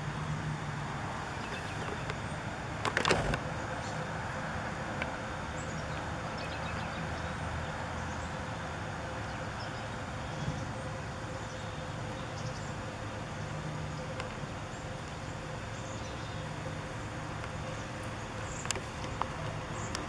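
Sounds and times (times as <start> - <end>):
distant road traffic: 0.0 - 20.0
small birds chirping: 1.2 - 2.5, 3.1 - 4.2, 5.0 - 20.0.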